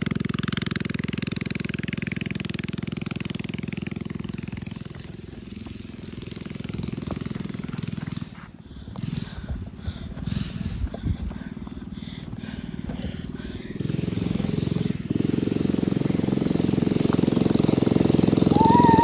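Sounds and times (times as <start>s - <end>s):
mini bike engine running: 0.0s - 19.0s.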